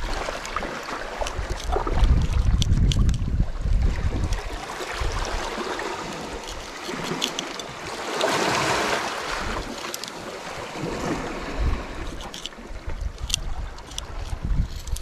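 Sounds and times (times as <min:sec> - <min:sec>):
waves washing against rocks: 0:00.0 - 0:15.0
wind buffeting microphone: 0:01.2 - 0:08.7, 0:09.3 - 0:15.0.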